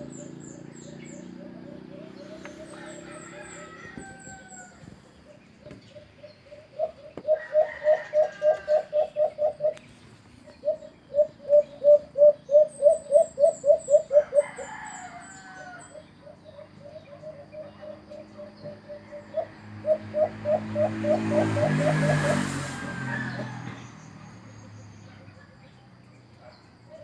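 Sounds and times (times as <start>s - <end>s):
dove hooting coos: 0.0s - 9.8s, 10.5s - 23.9s.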